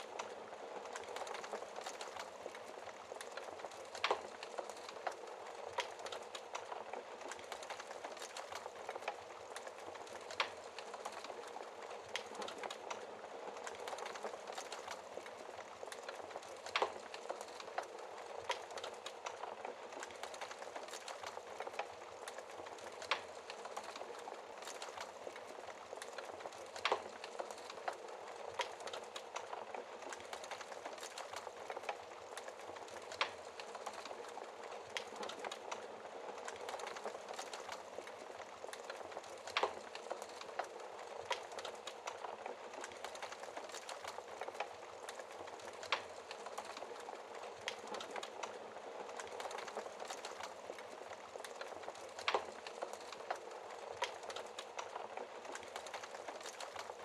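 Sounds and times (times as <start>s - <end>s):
rain hissing: 0.0s - 57.0s
wood fire crackling: 0.0s - 57.0s.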